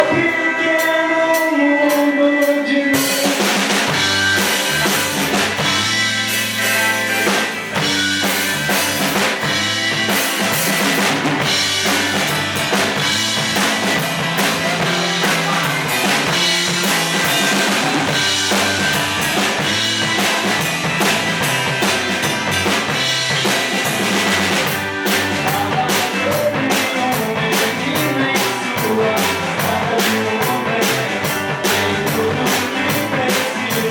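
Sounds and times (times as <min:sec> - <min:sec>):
bass line: 0:00.0 - 0:01.9, 0:02.9 - 0:33.9
band playing live: 0:00.0 - 0:33.9
drum kit: 0:00.0 - 0:33.9.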